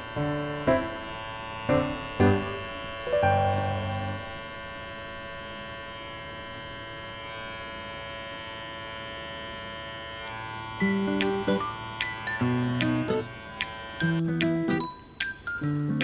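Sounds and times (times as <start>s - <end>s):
pet trimmer humming: 0.0s - 16.0s.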